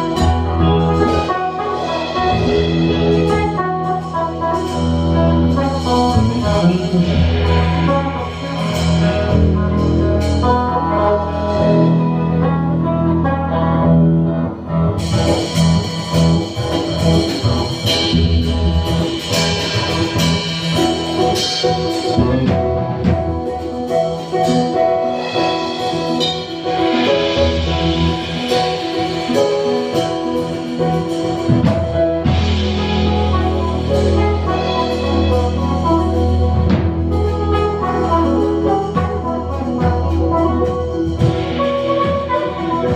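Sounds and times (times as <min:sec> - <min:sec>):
live band instrumental music: 0:00.0 - 0:42.9.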